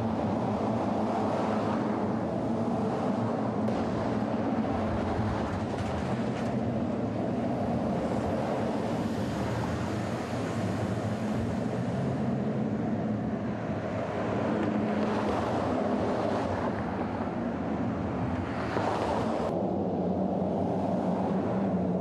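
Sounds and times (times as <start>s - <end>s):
traffic rumble: 0.0s - 22.0s
vehicles passing: 0.0s - 22.0s
wind noise on microphone: 0.0s - 22.0s.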